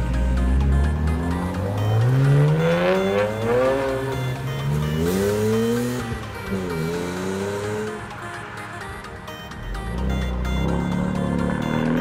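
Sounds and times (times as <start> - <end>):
car engines accelerating hard: 0.0 - 12.0
electronic music: 0.0 - 12.0.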